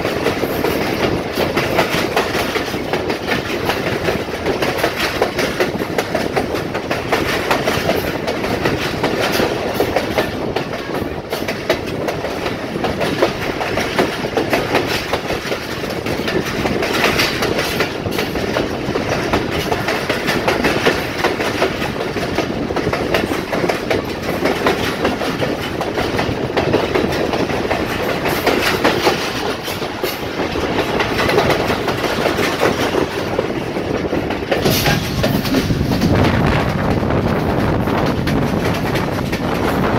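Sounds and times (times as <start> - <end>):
coach rattling: 0.0 - 39.9
train wheels clattering over rails: 0.0 - 39.9.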